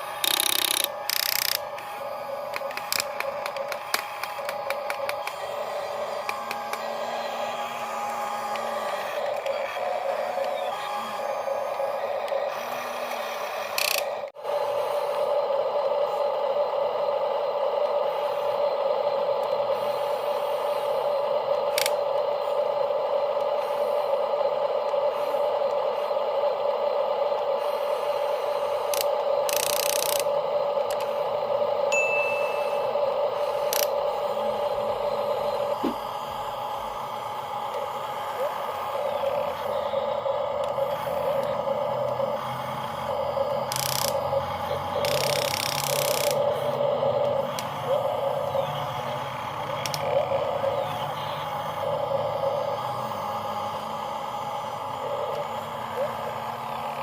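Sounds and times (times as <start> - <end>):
toy gear motors whirring: 0.0 - 15.3, 17.8 - 31.8, 32.6 - 57.0.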